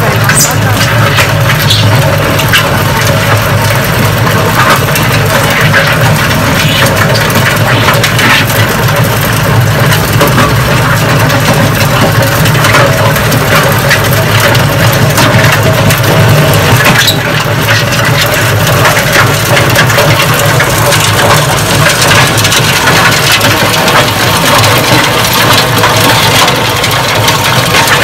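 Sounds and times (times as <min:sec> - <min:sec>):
cutter grinding ground: 0:00.0 - 0:28.0
rattle of small stones: 0:00.0 - 0:28.0
tractor engine under load: 0:00.0 - 0:28.0.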